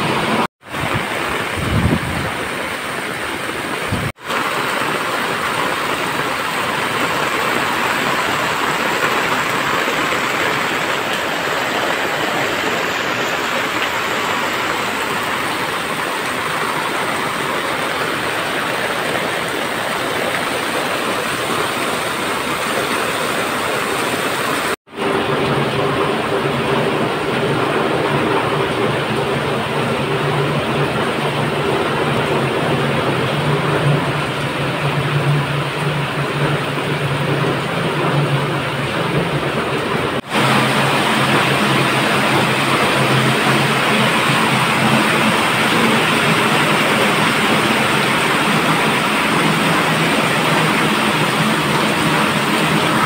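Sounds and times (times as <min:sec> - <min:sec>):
heavy rain pouring: 0:00.0 - 0:53.0
runoff splashing on paving: 0:00.0 - 0:53.0.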